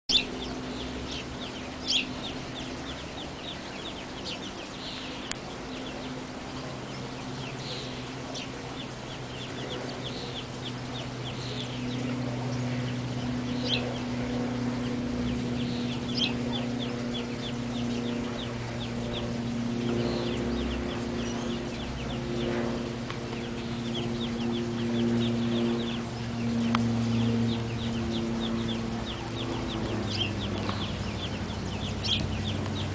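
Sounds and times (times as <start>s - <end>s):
ducklings peeping: 0.1s - 32.9s
steady low hum: 0.1s - 32.9s.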